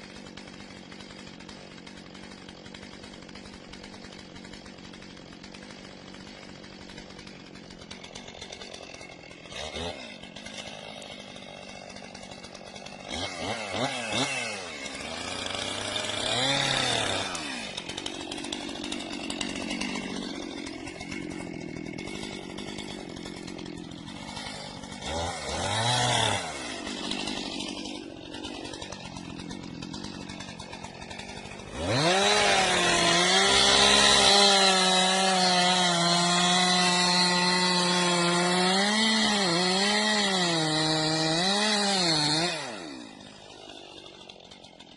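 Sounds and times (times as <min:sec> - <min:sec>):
chainsaw cutting wood: 0:00.0 - 0:44.9
chainsaw idling and revving: 0:00.0 - 0:44.9.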